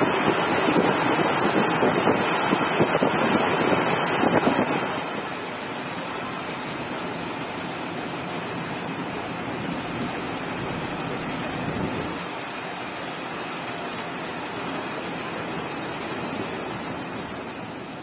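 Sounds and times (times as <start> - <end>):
sea water rushing: 0.0 - 18.0.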